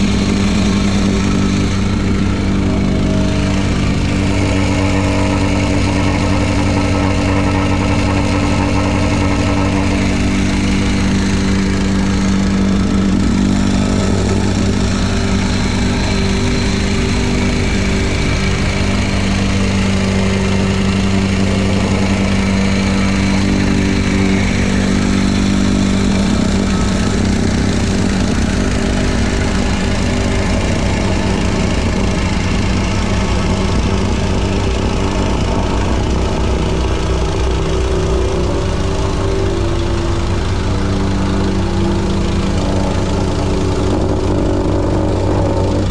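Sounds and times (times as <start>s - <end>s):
construction machine engine running: 0.0s - 45.9s.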